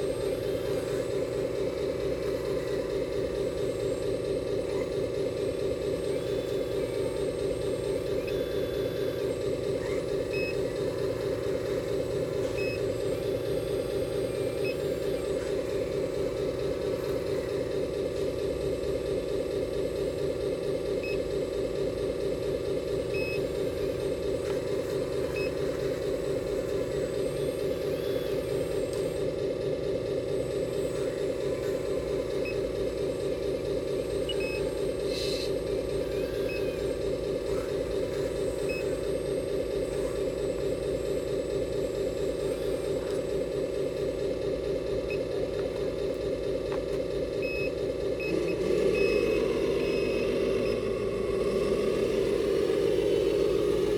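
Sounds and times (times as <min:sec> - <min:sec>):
small electric motor humming: 0:00.0 - 0:18.2, 0:23.4 - 0:46.2, 0:48.3 - 0:53.9.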